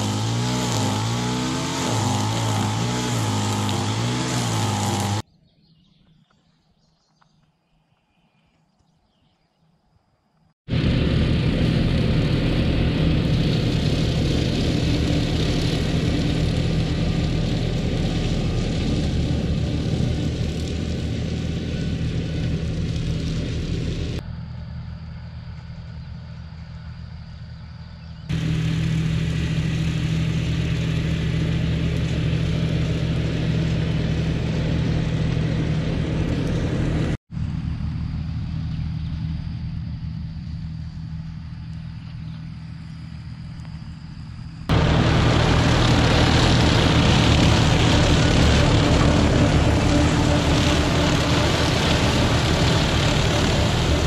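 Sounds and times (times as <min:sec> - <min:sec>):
tractor diesel engine running: 0:00.0 - 0:05.2, 0:10.7 - 0:54.0.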